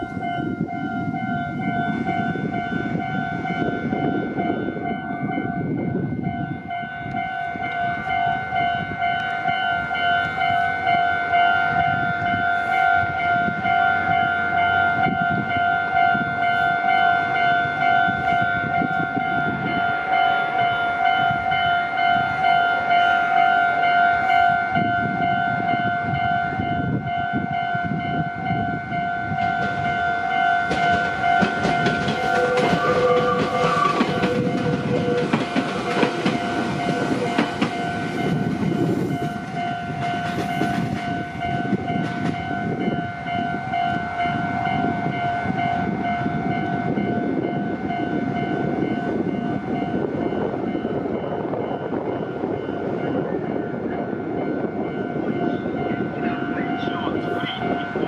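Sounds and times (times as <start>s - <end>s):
level-crossing alarm ringing: 0.0s - 58.0s
train wheels rumbling on rails: 0.0s - 58.0s.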